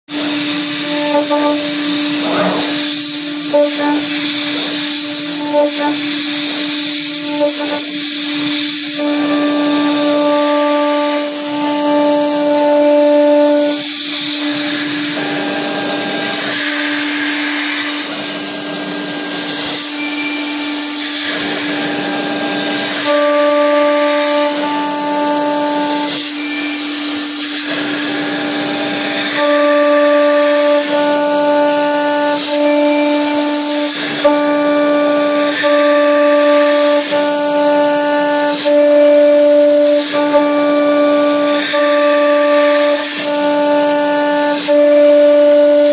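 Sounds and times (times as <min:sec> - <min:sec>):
coolant air hiss: 0:00.2 - 0:19.6, 0:20.7 - 0:45.9.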